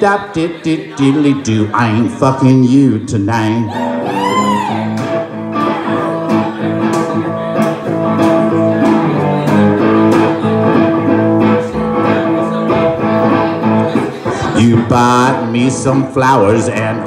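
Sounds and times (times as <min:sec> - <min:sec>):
electric guitar strumming chords: 0:00.8 - 0:17.0.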